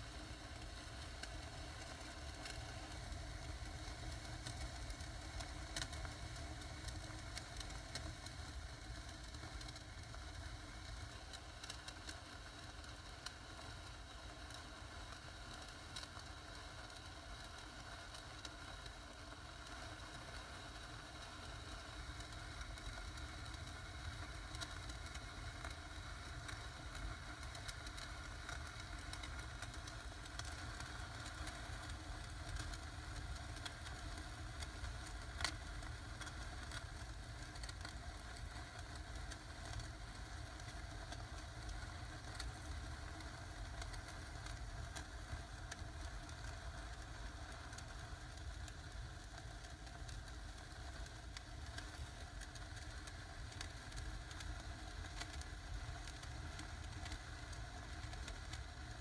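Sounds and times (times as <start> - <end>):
faint crackles: 0.0 - 59.0.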